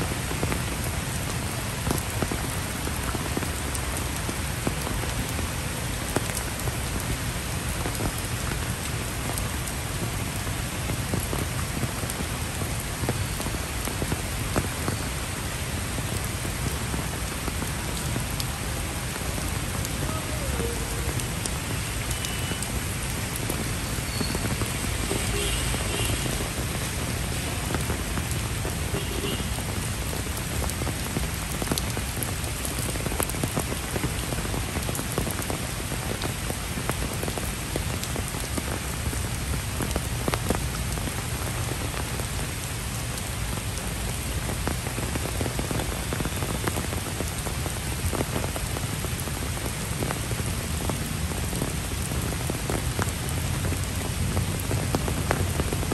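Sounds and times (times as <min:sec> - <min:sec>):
sharp raindrop hits: 0:00.0 - 0:55.9
steady rain falling: 0:00.0 - 0:55.9.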